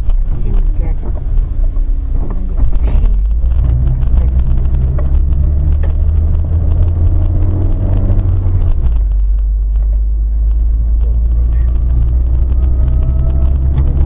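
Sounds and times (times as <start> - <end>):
small knocks and rattles: 0.0 - 14.0
vehicle engine and road rumble: 0.0 - 14.0.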